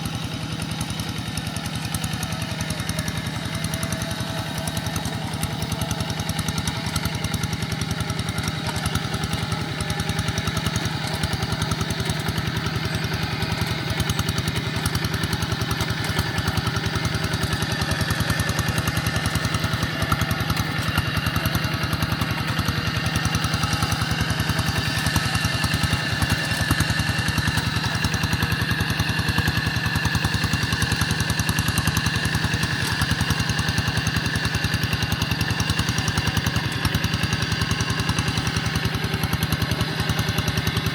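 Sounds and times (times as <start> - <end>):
walking tractor engine running: 0.0 - 40.9.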